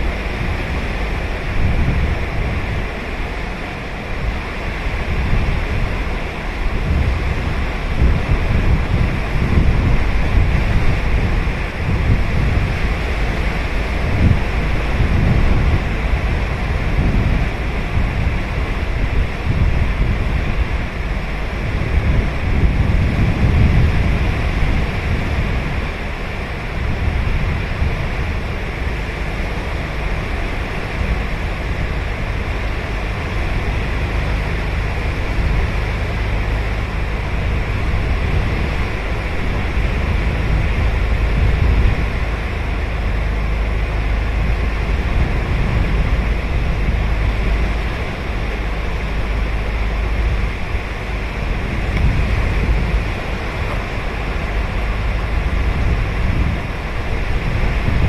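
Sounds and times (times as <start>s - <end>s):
deep low rumble: 0.0s - 58.0s
sea surf washing onto beach: 0.0s - 58.0s.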